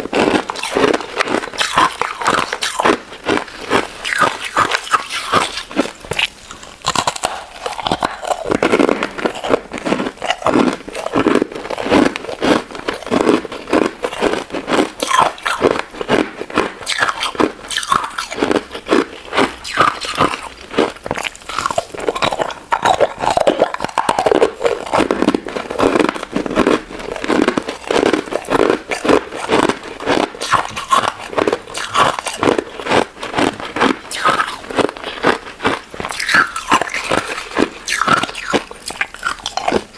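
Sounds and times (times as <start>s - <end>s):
crunching and chewing ice dessert: 0.0s - 39.9s.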